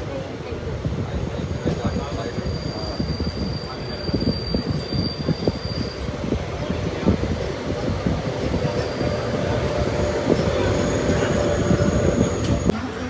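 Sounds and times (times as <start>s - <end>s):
train wheels rumbling on track: 0.0s - 12.8s.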